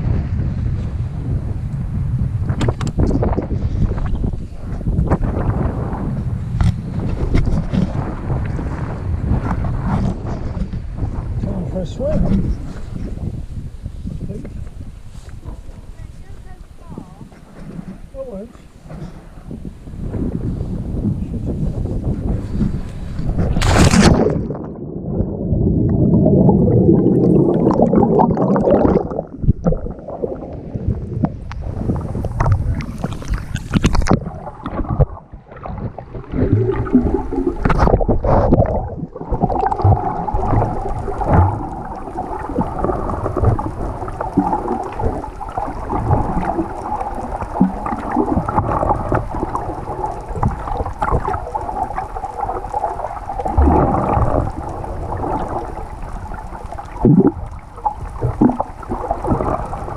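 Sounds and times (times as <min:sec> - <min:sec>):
underwater gurgling and sloshing: 0:00.0 - 0:59.9.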